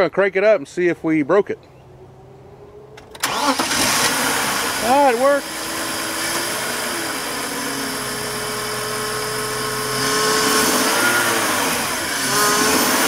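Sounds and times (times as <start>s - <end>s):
car engine running: 1.9s - 13.0s.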